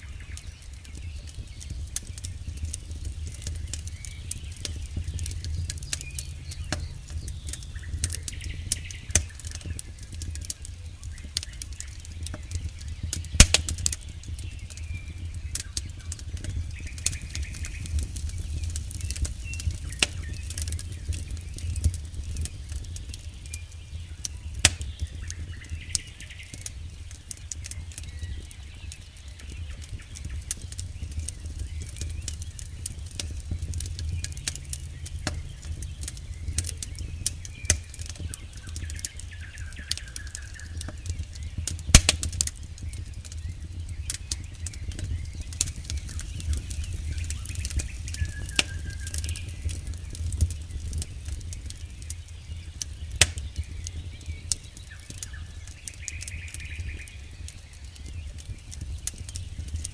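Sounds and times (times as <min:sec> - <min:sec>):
campfire crackling and popping: 0:00.0 - 0:59.9
low rumble: 0:01.3 - 0:25.2, 0:29.6 - 0:53.9.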